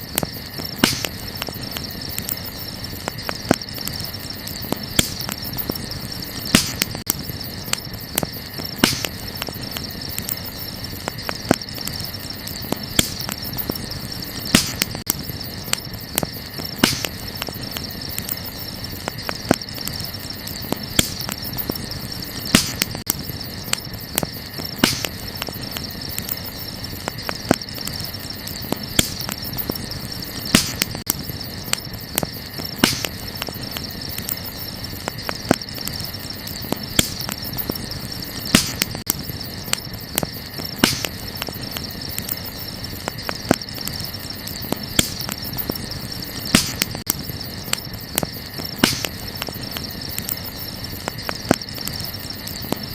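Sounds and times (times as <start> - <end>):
crickets chirring: 0.0 - 52.9
wood fire crackling and popping: 0.0 - 52.9.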